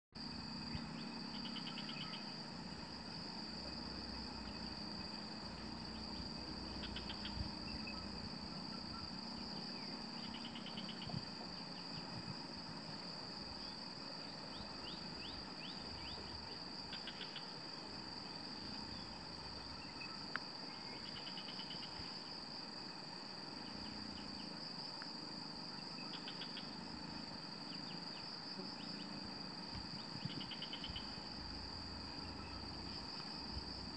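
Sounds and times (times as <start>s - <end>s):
high-pitched insect chorus: 0.2s - 33.9s
pulsing insect call: 0.2s - 33.9s.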